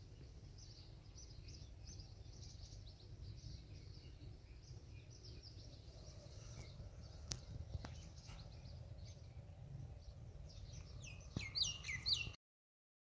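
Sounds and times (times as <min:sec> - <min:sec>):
low outdoor rumble: 0:00.0 - 0:12.4
small bird chirping: 0:00.0 - 0:12.4.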